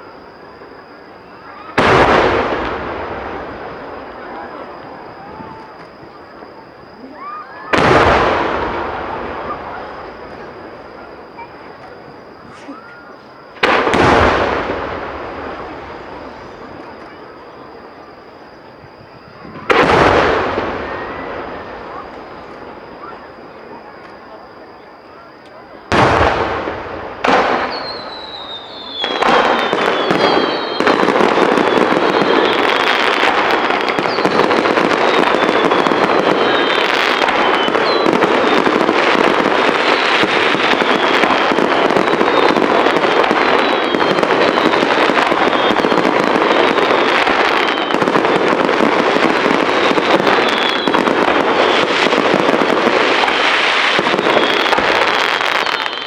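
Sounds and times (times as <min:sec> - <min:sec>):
falling firework whistles: 0:00.0 - 0:56.0
firework bursts and crackle: 0:00.0 - 0:56.0
sharp firework bangs: 0:01.5 - 0:12.2, 0:13.6 - 0:17.8, 0:18.9 - 0:23.6, 0:25.8 - 0:56.0.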